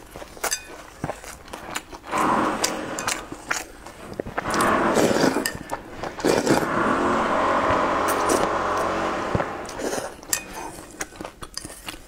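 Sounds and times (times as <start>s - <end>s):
slurping noodles and broth: 1.1s - 12.0s.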